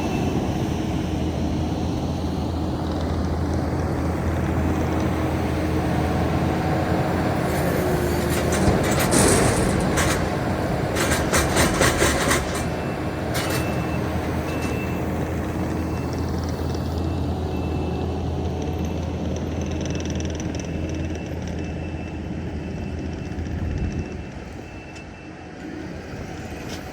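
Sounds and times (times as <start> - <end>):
heavy equipment engine humming: 0.0 - 26.9.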